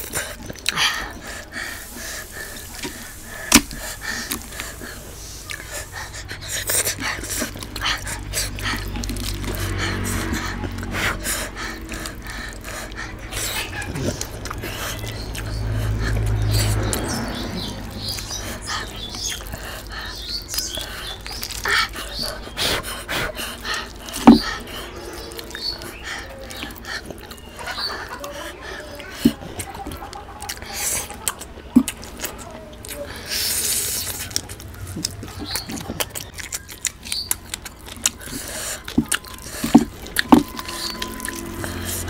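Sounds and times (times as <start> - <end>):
hands squelching food: 0.0 - 42.0
open-mouthed chewing: 0.0 - 42.0.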